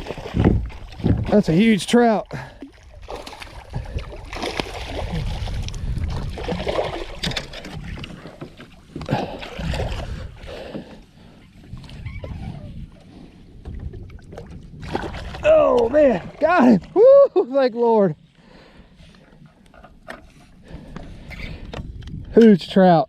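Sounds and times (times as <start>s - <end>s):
water sloshing and splashing: 0.0s - 22.3s.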